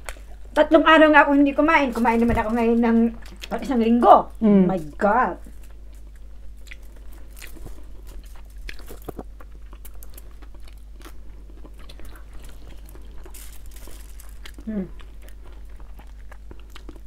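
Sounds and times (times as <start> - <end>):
chewing and crunching food: 0.0 - 0.6, 1.8 - 4.0, 4.8 - 17.0.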